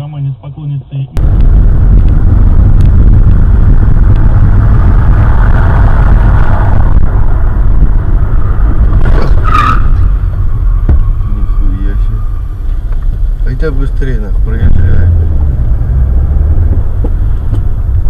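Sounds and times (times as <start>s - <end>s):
car rumbling: 0.0s - 18.0s.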